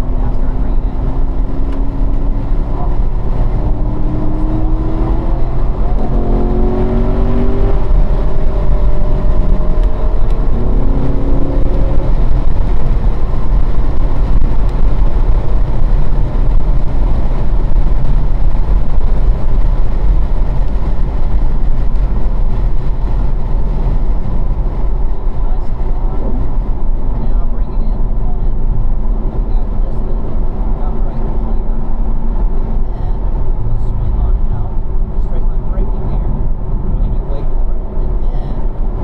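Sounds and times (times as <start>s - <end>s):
car engine revving: 0.0s - 39.0s
wind and road noise: 0.0s - 39.0s.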